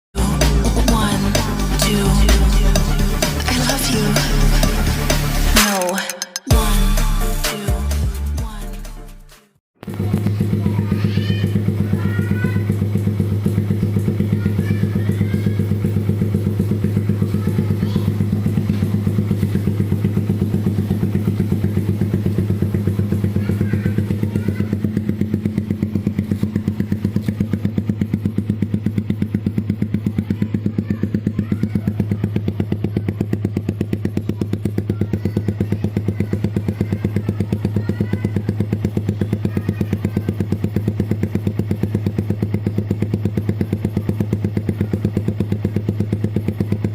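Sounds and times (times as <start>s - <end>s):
motorcycle engine idling: 0.2s - 5.6s, 9.8s - 46.9s.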